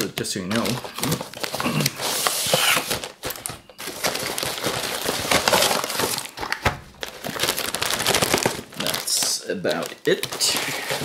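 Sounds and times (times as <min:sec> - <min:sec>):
plastic and cardboard packaging crinkling: 0:00.0 - 0:11.0.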